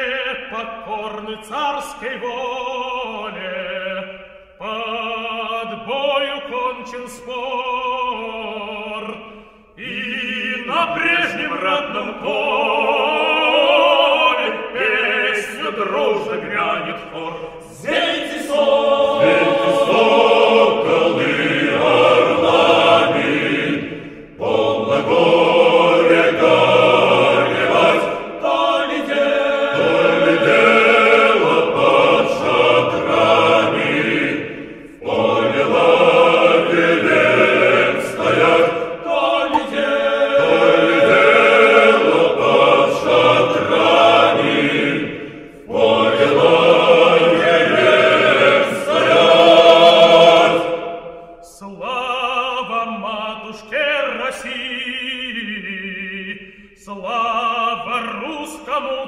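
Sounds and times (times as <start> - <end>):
choir singing: 9.8 - 59.0.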